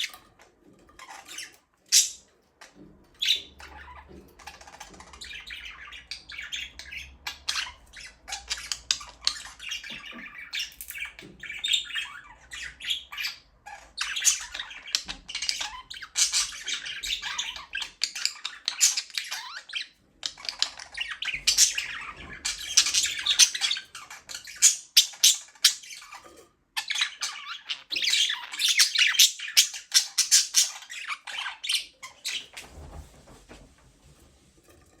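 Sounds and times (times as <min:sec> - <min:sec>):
flock of parakeets chattering: 0:01.0 - 0:33.0.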